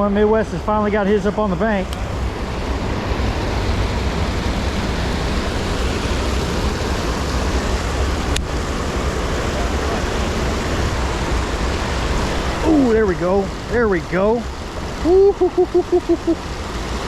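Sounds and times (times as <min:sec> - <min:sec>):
rushing creek water: 0:00.0 - 0:17.0.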